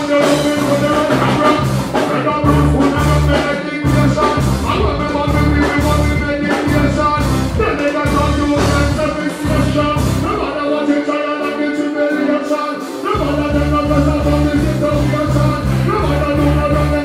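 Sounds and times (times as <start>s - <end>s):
heavy bass line: 0.0s - 17.0s
live band playing through pa: 0.0s - 17.0s
person singing into microphone: 0.0s - 17.0s.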